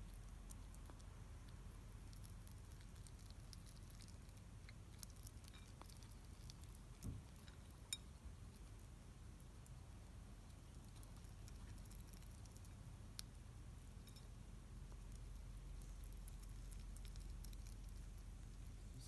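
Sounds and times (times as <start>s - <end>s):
hedgehog crunching dry kibble: 0.0s - 19.0s
steady low hum: 0.0s - 19.0s.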